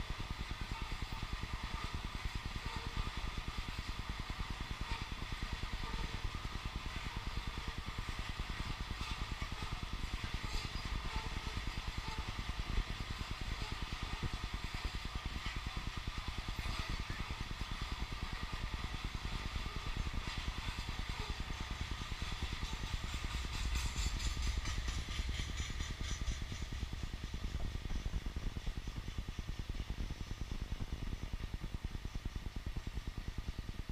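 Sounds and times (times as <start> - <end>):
freight train rumbling past: 0.0 - 30.6
wheels clattering on rails: 0.0 - 33.9.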